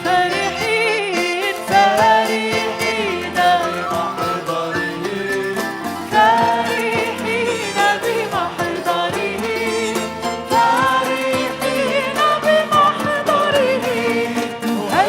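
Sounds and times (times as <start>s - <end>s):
church praise band music: 0.0s - 15.0s
drums keeping the beat: 0.0s - 15.0s.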